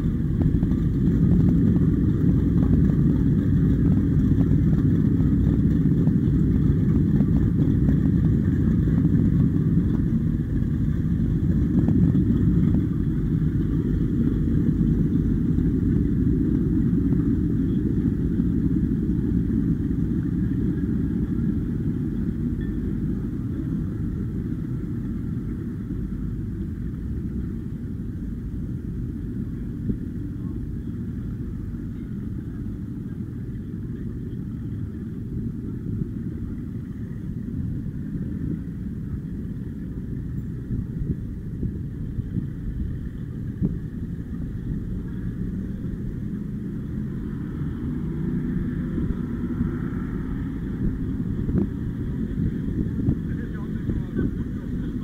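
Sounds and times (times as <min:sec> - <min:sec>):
powerboat engines rumbling: 0:00.0 - 0:55.0.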